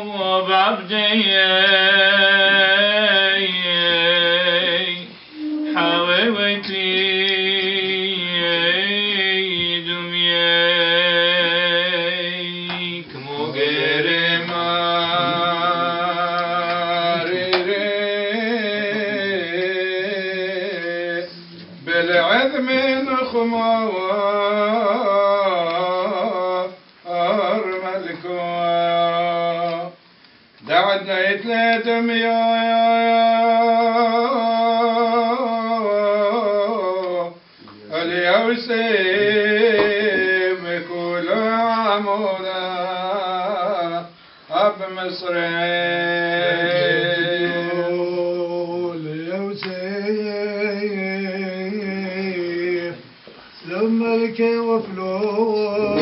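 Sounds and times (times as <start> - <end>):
man chanting a hymn: 0.0 - 30.0, 30.6 - 56.0.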